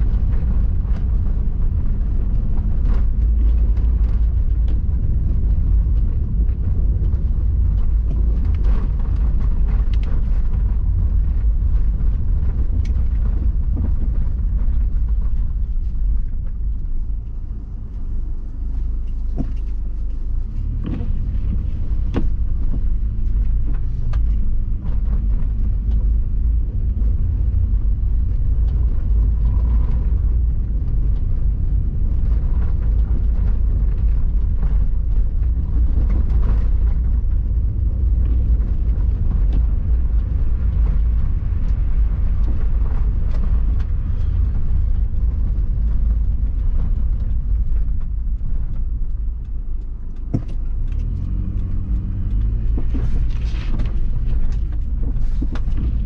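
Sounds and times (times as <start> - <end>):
car cabin rumble on snowy road: 0.0 - 56.0.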